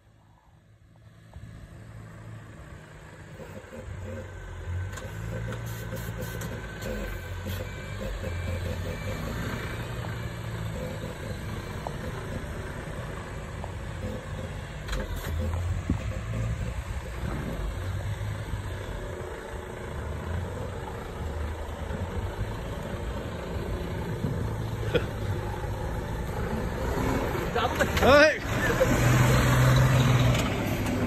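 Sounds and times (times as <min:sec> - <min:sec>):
snowmobile engine droning: 0:00.8 - 0:31.0.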